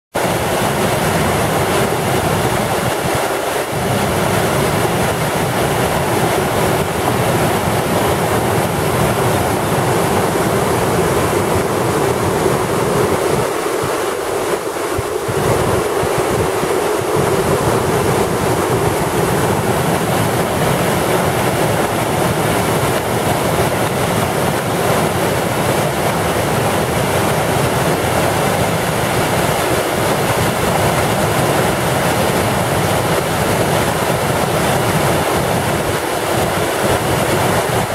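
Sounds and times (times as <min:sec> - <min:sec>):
river rushing over rapids: 0:00.2 - 0:37.9.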